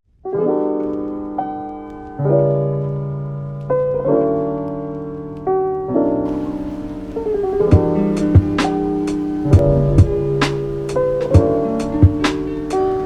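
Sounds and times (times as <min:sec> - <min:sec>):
slow piano chords: 0:00.1 - 0:13.0.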